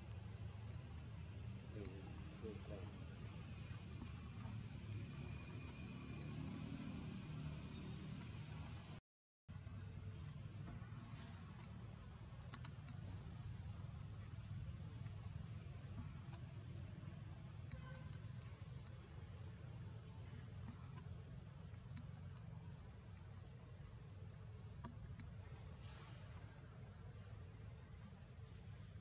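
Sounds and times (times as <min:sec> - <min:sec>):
insect chorus drone: 0:00.0 - 0:29.0.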